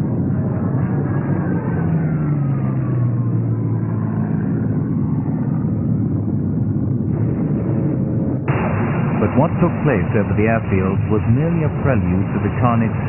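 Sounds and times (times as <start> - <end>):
constant rumble: 0.0 - 13.0
propeller aircraft engine droning: 0.0 - 13.0.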